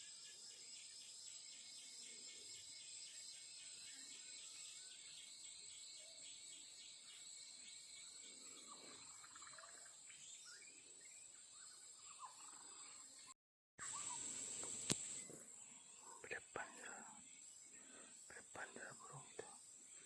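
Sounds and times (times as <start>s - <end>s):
faint bird chirps: 0.0s - 20.0s
high-pitched insect chorus: 0.0s - 20.0s.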